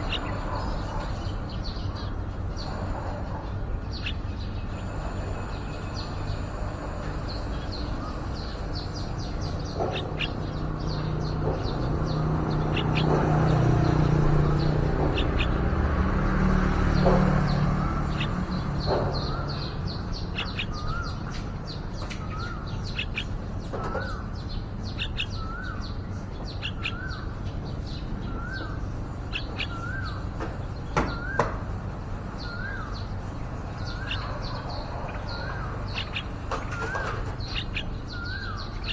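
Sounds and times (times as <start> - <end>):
bulbuls chirping: 0.0 - 38.9.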